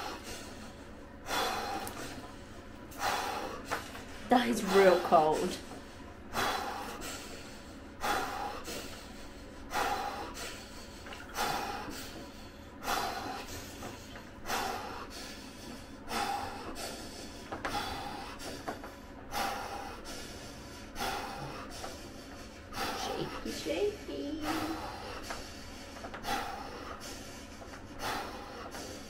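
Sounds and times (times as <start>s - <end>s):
man breathing hard: 0.0s - 5.0s, 5.6s - 29.0s.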